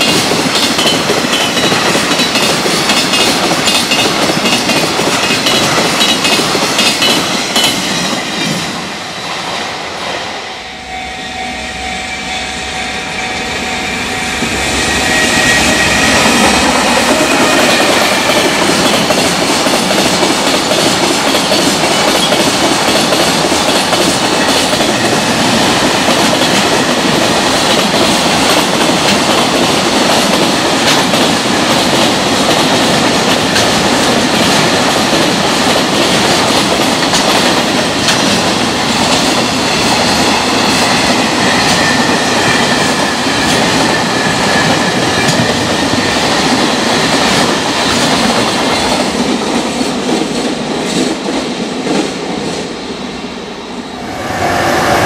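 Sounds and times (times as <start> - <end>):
train wheels clattering: 0.0 - 8.9, 14.4 - 52.7
train rumble: 0.0 - 52.9, 53.9 - 55.0.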